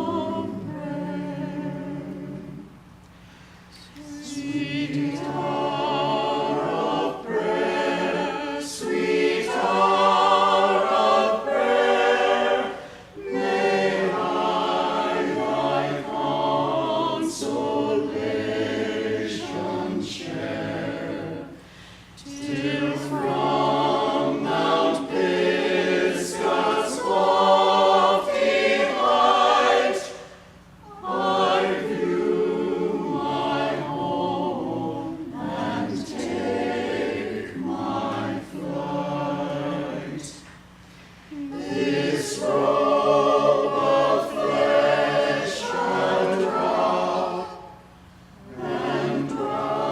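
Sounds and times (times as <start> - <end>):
group of voices singing: 0.0 - 2.8, 3.8 - 40.5, 41.3 - 49.9.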